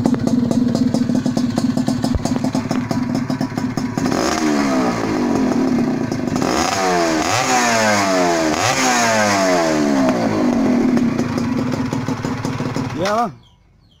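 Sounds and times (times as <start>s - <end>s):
two-stroke engine revving: 0.0s - 13.4s.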